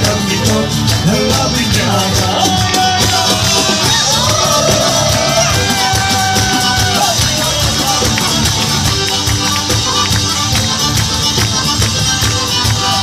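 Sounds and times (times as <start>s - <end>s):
fast folk dance music: 0.0s - 13.0s.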